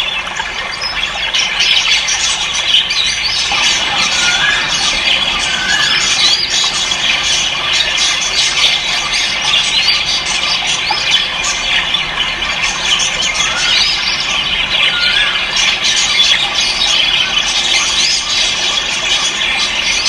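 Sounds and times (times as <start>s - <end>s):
cage birds squawking and chirping: 0.0s - 20.0s.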